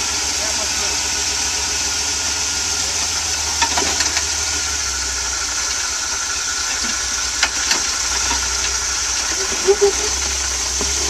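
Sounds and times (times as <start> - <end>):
engine running near idle: 0.0 - 11.0.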